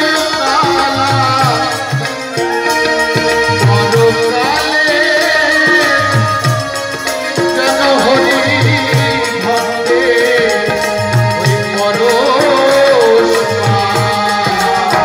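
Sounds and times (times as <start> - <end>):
held accompanying notes: 0.0 - 15.0
man singing over pa: 0.0 - 15.0.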